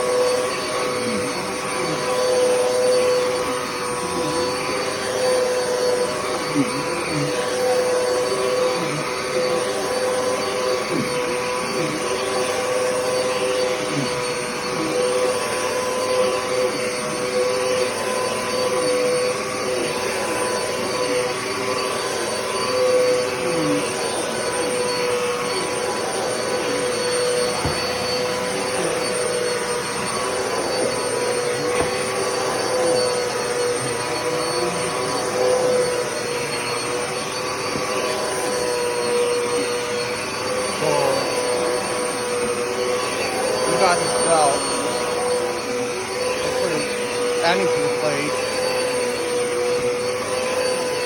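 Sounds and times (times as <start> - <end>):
upright vacuum cleaner running: 0.0 - 51.0.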